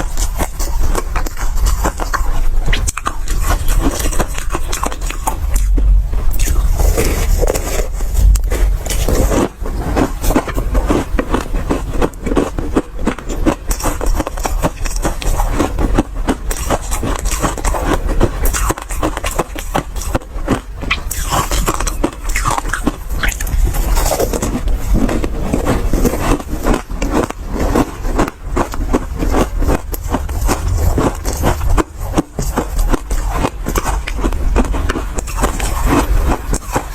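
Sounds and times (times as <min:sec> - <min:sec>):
ice being chewed and crunched: 0:00.0 - 0:36.9.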